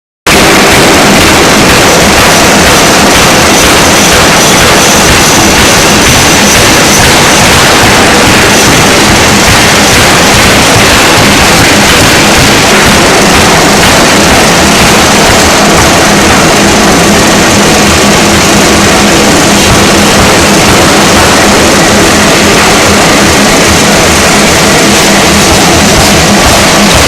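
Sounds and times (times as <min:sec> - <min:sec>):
low hum: 0:00.3 - 0:27.0.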